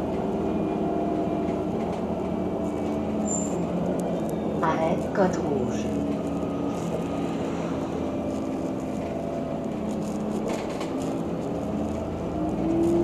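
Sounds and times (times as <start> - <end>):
bus engine hum inside cabin: 0.0 - 13.0.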